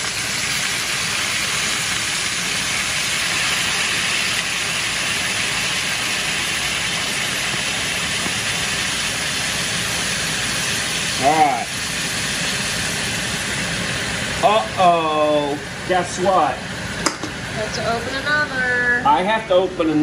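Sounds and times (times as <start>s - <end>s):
beer hissing in hot pan: 0.0s - 20.0s
kitchen exhaust fan: 0.0s - 20.0s.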